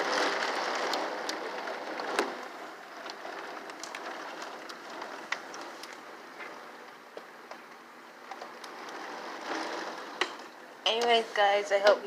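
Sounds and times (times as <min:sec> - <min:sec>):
raindrops ticking on surfaces: 0:00.0 - 0:11.2
heavy rain falling: 0:00.0 - 0:11.3.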